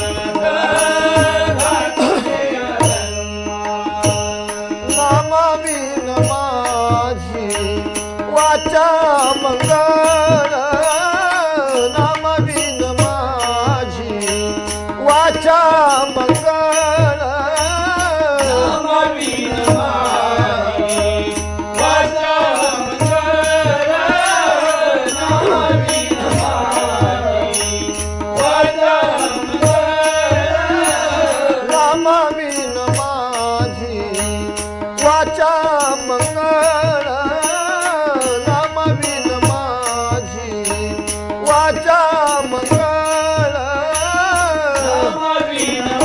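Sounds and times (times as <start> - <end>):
harmonium: 0.0 - 46.0
man singing: 0.0 - 46.0
tabla strokes: 0.0 - 46.0.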